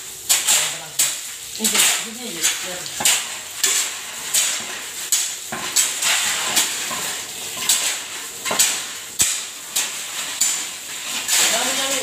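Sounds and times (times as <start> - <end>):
shovel scraping concrete mix: 0.2 - 12.0.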